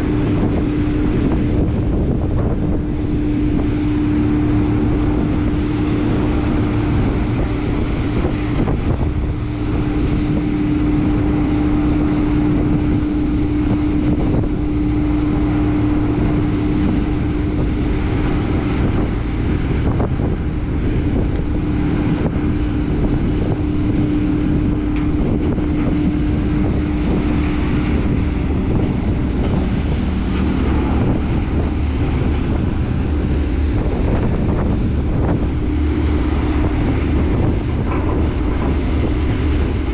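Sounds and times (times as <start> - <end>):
ferry engines humming: 0.0 - 39.9
wind buffeting microphone: 0.0 - 39.9.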